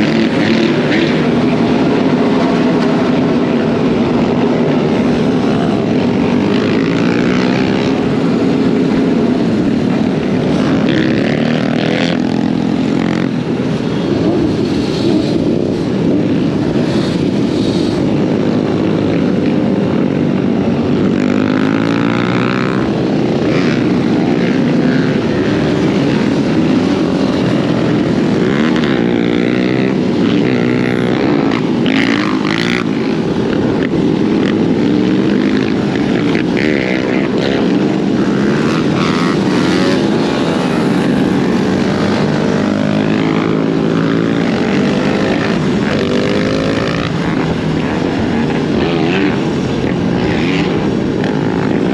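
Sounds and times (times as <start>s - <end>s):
dirt bike engine revving: 0.0s - 51.9s
steady rushing noise: 0.0s - 51.9s.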